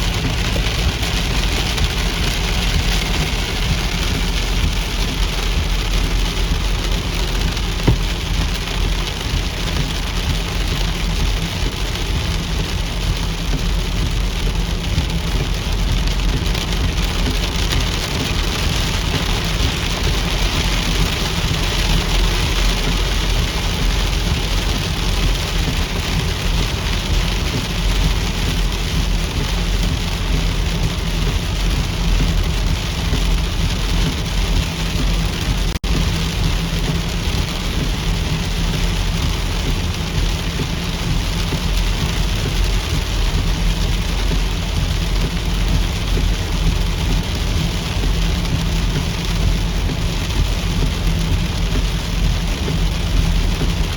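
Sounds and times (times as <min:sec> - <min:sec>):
heavy rain: 0:00.0 - 0:53.9
low rumble: 0:00.0 - 0:53.9.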